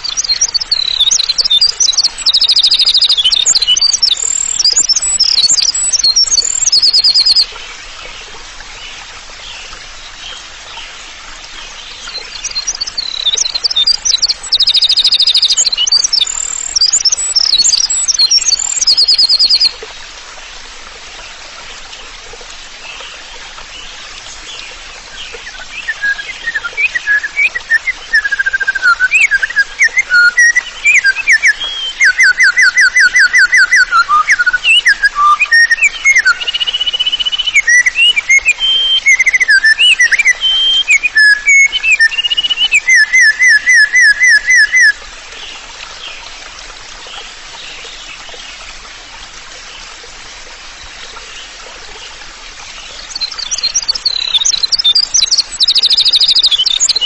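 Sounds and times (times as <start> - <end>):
songbirds singing: 0.0 - 20.5, 21.2 - 57.0.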